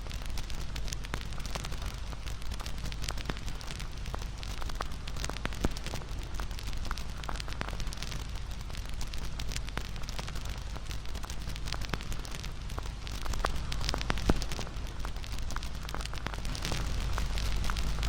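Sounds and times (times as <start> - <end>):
bonfire flames rumbling: 0.0 - 18.0
fire crackles and pops: 0.0 - 18.0.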